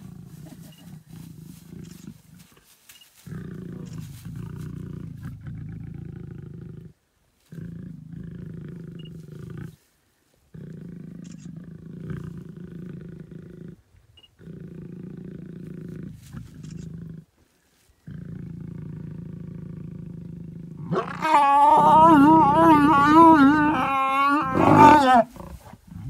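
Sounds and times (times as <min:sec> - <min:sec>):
lions growling: 0:00.0 - 0:02.6, 0:03.2 - 0:09.8, 0:10.5 - 0:17.3, 0:18.0 - 0:26.0.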